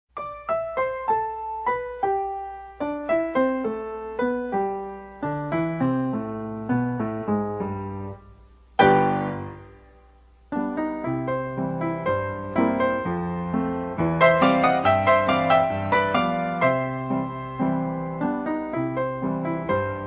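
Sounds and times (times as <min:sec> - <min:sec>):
piano music: 0:00.1 - 0:20.0.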